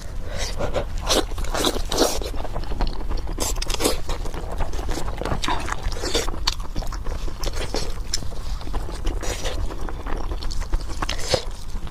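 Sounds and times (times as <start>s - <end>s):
chewing and crunching: 0.0s - 11.9s
steady low rumble: 0.0s - 11.9s.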